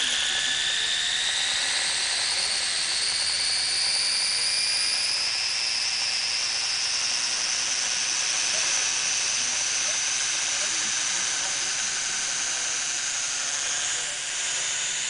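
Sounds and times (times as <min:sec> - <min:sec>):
electric motor whine rising: 0:00.0 - 0:15.0.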